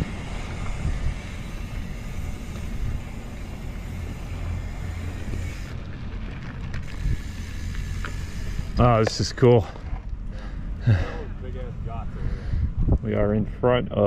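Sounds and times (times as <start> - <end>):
bike tyres rolling on dirt: 0.0 - 13.8
wind buffeting microphone: 0.0 - 14.0.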